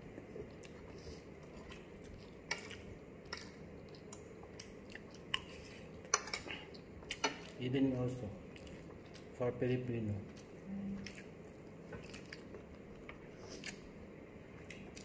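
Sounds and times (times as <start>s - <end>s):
quiet chewing: 0.0s - 7.6s, 8.4s - 9.4s, 10.2s - 15.0s.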